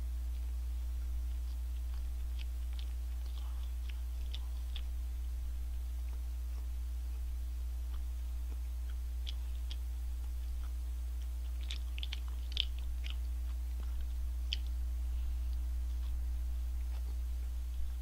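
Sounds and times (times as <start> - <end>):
chewing fried food: 0.0 - 18.0
steady low hum: 0.0 - 18.0.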